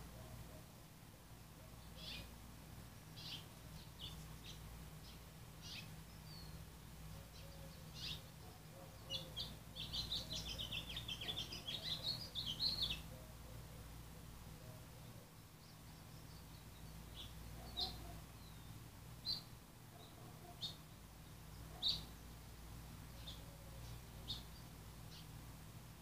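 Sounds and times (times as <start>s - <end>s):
small birds chirping: 1.7s - 25.6s.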